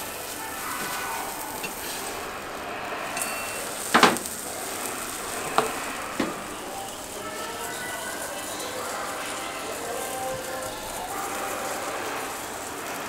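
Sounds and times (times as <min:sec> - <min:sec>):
crepe sizzling on griddle: 0:00.0 - 0:13.0.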